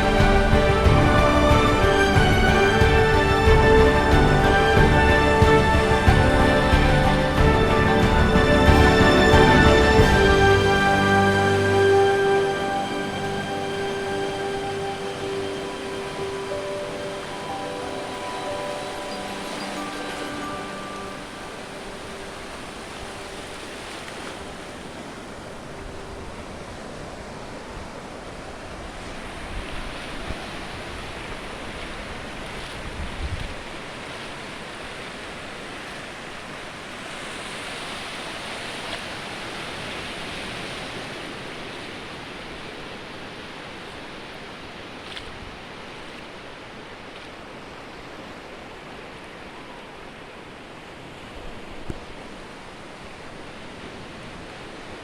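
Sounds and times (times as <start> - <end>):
sea waves washing: 0.0 - 55.0.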